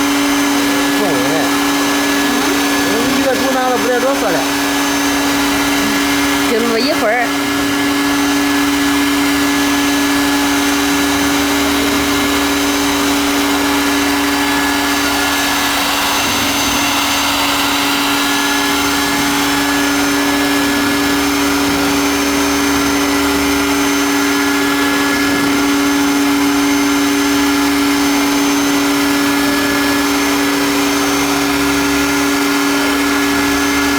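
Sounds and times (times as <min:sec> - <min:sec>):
router spindle humming: 0:00.0 - 0:33.9.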